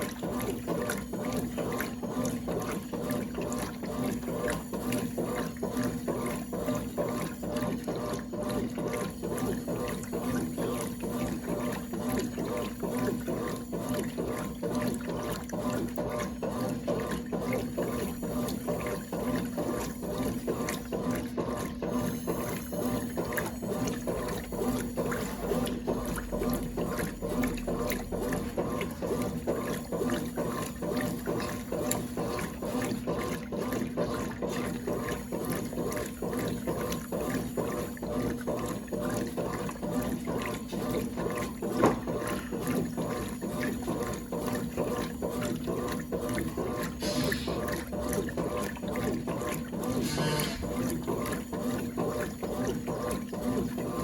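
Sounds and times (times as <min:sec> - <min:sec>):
washing machine hum: 0:00.0 - 0:54.0
water sloshing in washing machine: 0:00.0 - 0:54.0.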